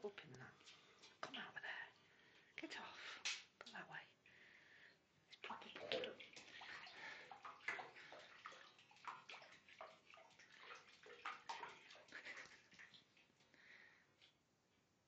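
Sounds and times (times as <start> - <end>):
bathwater lapping and splashing: 0.0 - 4.8, 5.4 - 14.5.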